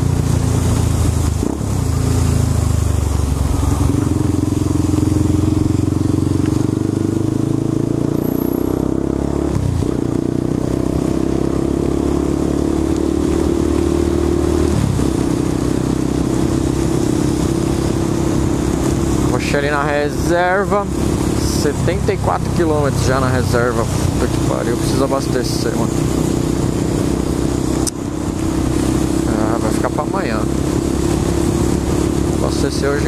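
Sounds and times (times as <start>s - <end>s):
motorcycle engine accelerating: 0.0s - 33.0s
wind and tyres on wet road: 0.0s - 33.0s.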